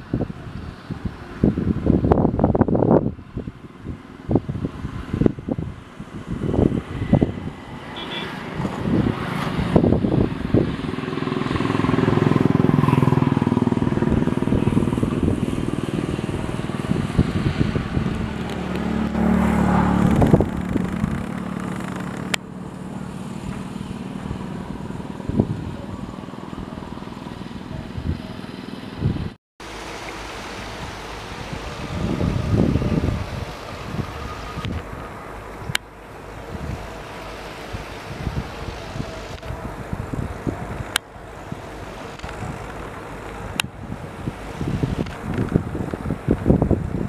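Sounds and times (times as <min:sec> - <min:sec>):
passing vehicle engines: 0:00.0 - 0:47.0.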